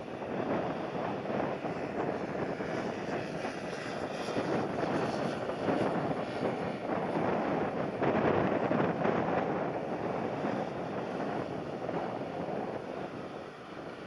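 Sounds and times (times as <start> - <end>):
gusty wind on microphone: 0.0 - 14.0
jet airliner engines rushing: 0.0 - 14.0.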